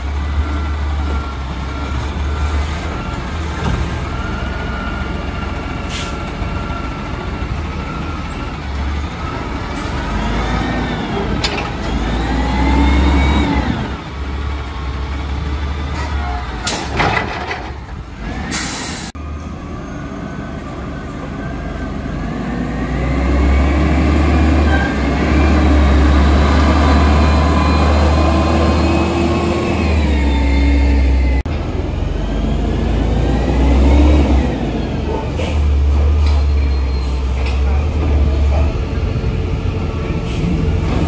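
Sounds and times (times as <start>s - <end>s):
truck engine rumble: 0.0s - 41.0s.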